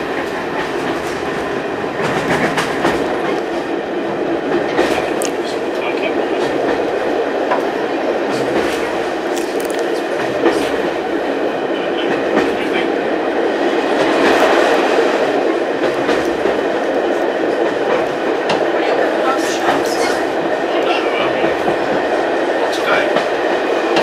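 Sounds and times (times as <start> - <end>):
train running inside carriage: 0.0 - 24.0.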